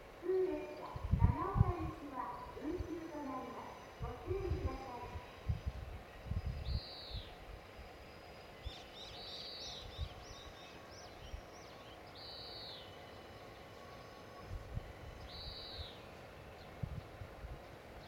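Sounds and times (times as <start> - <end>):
low background hum: 0.0 - 18.0
small birds calling: 0.2 - 18.0.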